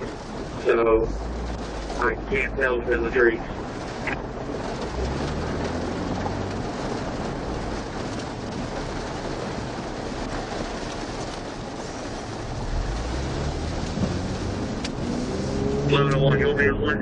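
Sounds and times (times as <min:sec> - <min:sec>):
steady rushing noise: 0:00.0 - 0:17.0
vehicle engine hum: 0:00.0 - 0:17.0.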